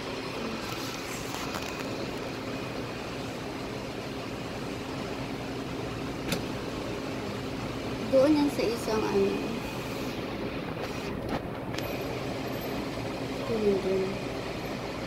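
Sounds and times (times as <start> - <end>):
hum of traffic and machinery: 0.0 - 15.0.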